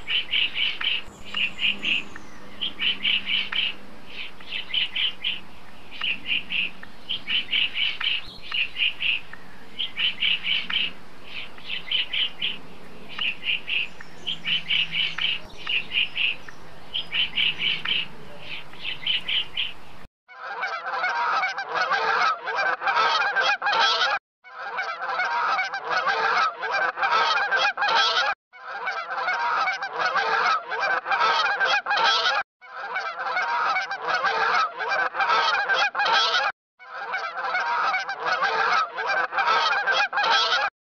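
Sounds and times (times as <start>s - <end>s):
waterfowl honking chorus: 0.0s - 40.7s.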